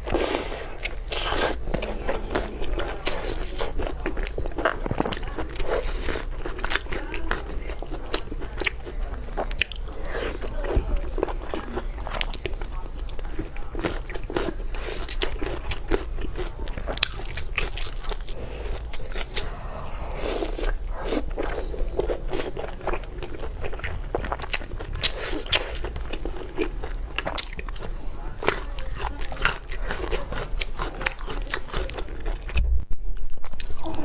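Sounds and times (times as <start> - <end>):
chewing and biting meat: 0.0 - 32.6.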